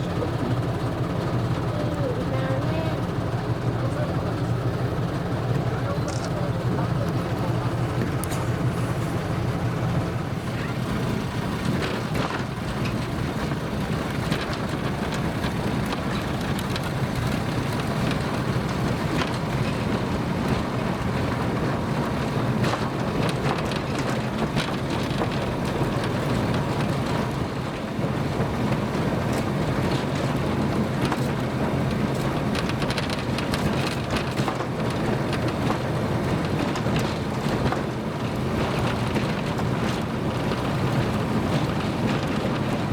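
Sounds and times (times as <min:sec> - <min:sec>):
train running with rattles: 0:00.0 - 0:42.9.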